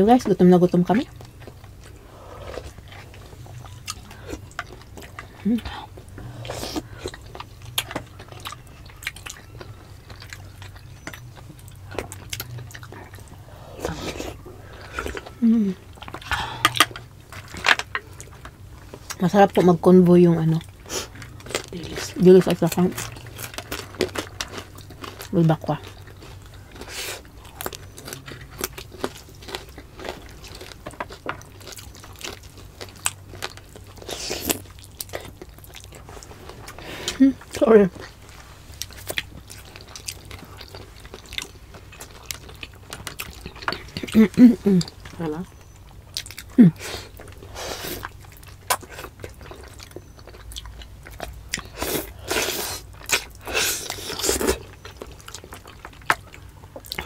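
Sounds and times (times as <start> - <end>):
people chewing and biting food: 0.8 - 19.8, 20.4 - 57.0.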